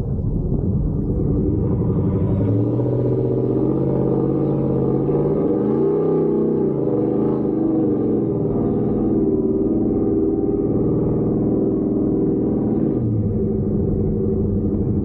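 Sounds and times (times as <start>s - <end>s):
truck engine revving: 1.1s - 15.0s.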